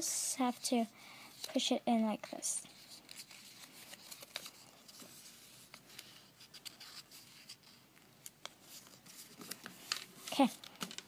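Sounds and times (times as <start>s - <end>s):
paper rustling and crackling: 1.4s - 11.0s.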